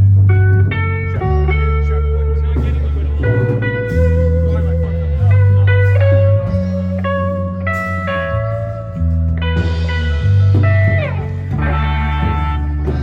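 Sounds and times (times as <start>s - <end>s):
bass notes: 0.0s - 13.0s
electric guitar: 0.0s - 13.0s.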